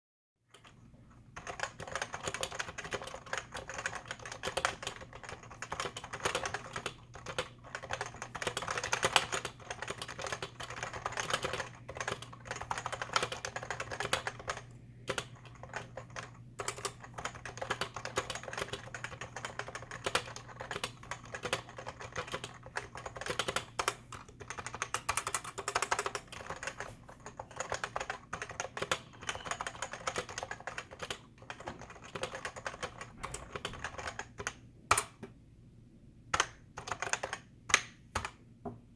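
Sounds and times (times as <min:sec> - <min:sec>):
keyboard typing clacks: 0:01.4 - 0:35.2, 0:36.4 - 0:38.4.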